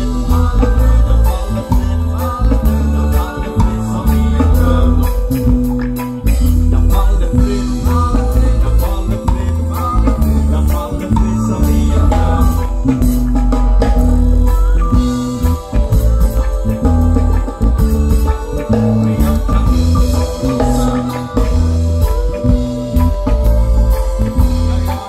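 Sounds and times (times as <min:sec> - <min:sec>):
drum kit: 0:00.0 - 0:25.0
guitar: 0:00.0 - 0:25.0
heavy repeating bass line: 0:00.0 - 0:25.0
keyboard: 0:00.0 - 0:25.0.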